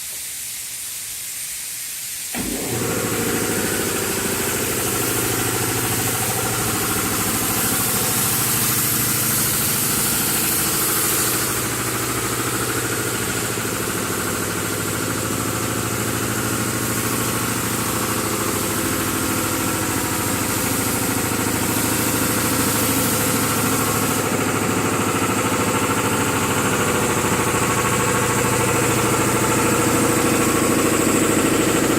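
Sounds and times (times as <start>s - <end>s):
hiss: 0.0s - 31.9s
boat engine idling: 2.4s - 31.9s.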